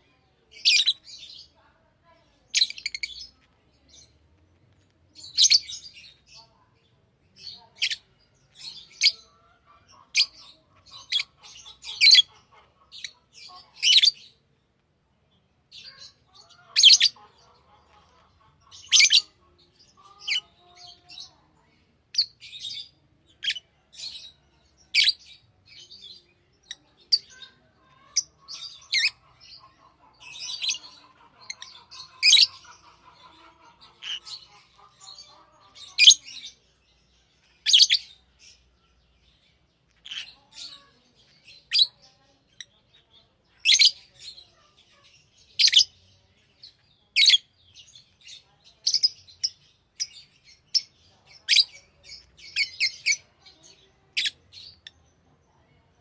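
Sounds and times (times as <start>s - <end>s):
lovebirds chirping: 0.0s - 56.0s
low warbling chatter: 0.0s - 56.0s.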